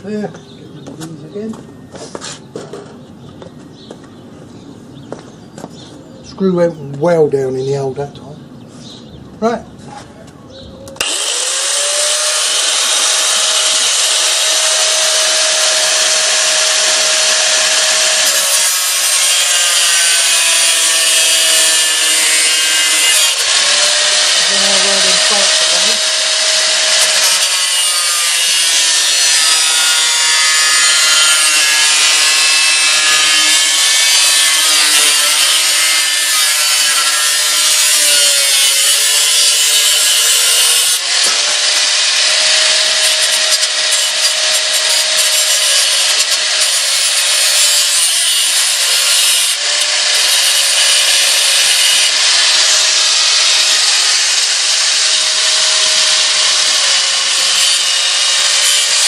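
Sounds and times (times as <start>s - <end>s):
power tool whine cutting: 11.0s - 59.0s.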